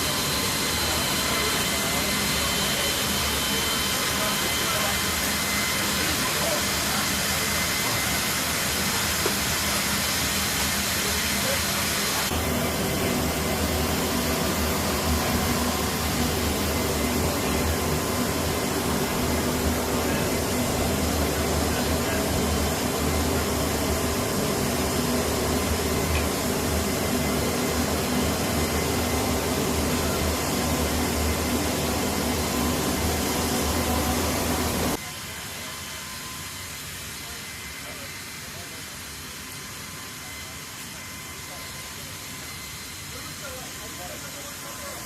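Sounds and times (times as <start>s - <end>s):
aircraft engines droning: 0.0s - 45.0s.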